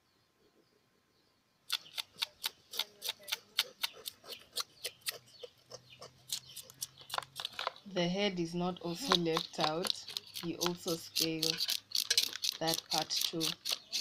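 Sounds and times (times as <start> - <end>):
knife scraping fish scales: 1.7 - 7.8, 8.9 - 14.0.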